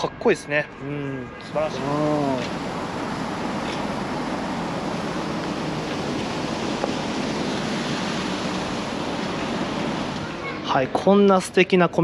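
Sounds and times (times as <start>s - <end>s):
hiss-like outdoor rush: 1.1s - 12.0s.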